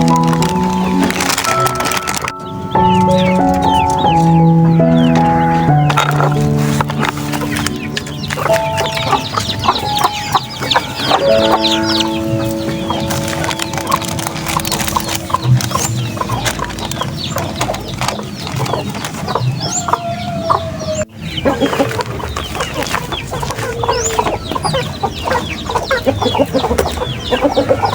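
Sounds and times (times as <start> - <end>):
chickens clucking: 0.0 - 27.9.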